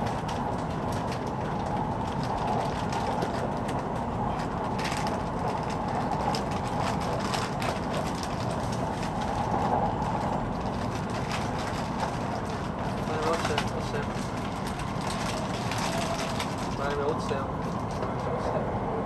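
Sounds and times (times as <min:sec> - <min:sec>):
train rumbling and rolling: 0:00.0 - 0:19.0.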